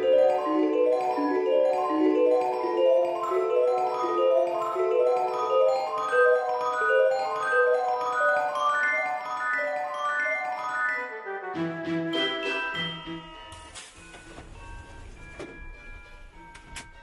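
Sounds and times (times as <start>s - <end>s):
mallet percussion melody: 0.0s - 11.2s, 12.0s - 17.0s.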